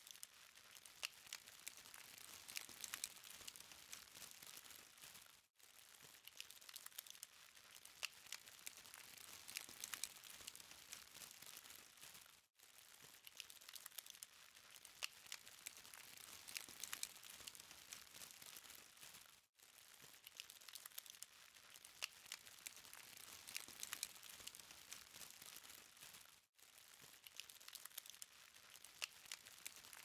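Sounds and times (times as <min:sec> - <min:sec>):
charcoal fire crackling: 0:00.1 - 0:26.4, 0:27.1 - 0:30.0.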